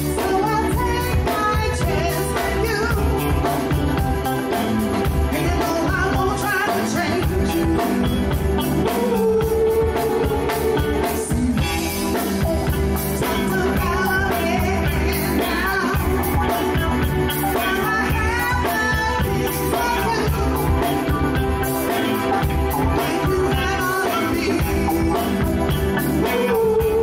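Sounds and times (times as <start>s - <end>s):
drums steady beat: 0.0s - 27.0s
live soul band playing: 0.0s - 27.0s.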